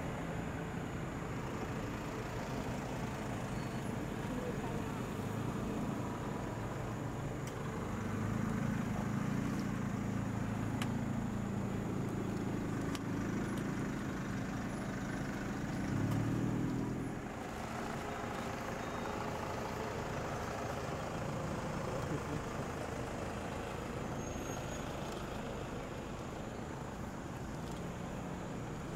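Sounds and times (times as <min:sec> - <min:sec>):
vehicle engine idling: 0:00.0 - 0:28.9.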